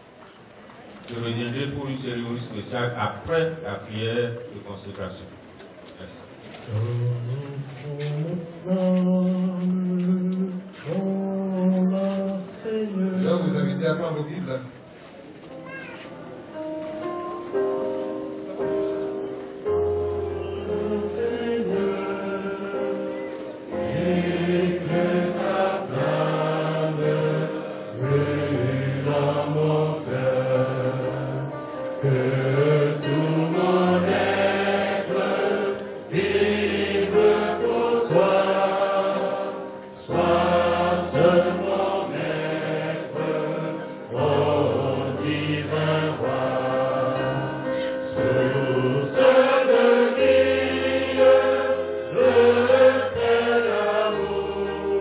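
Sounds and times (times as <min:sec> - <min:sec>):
congregation singing a hymn: 0:06.7 - 0:14.2, 0:17.3 - 0:55.0.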